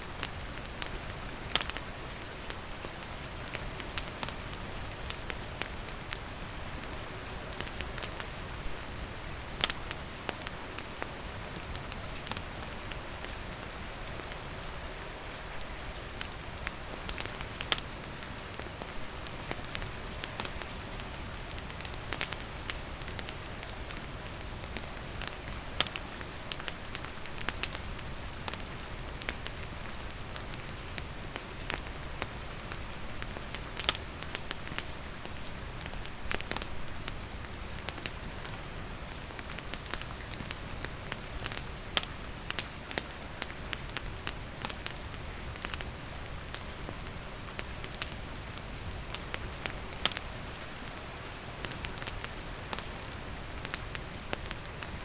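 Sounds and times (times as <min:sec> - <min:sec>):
rain falling: 0:00.0 - 0:55.0
campfire crackling and popping: 0:00.1 - 0:55.0.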